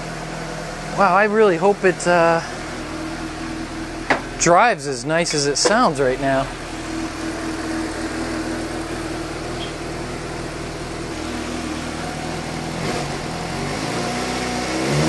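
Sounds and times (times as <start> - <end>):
motorcycle engine idling: 0.0 - 13.7.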